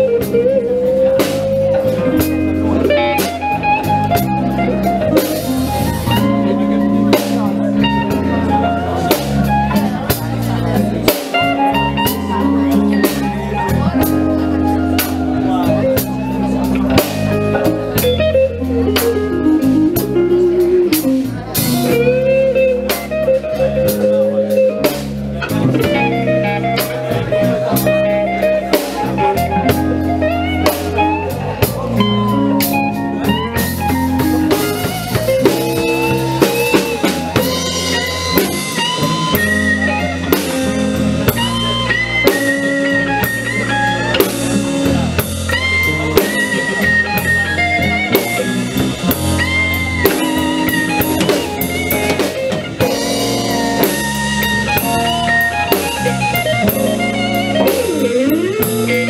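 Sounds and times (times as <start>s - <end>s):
blues band playing: 0.0s - 59.0s
electric guitar bending notes: 0.0s - 59.0s.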